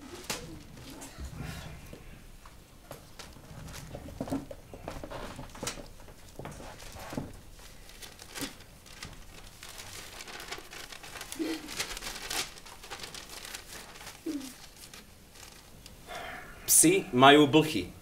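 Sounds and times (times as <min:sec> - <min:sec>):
newspaper rustling: 0:00.0 - 0:01.3, 0:02.9 - 0:16.0.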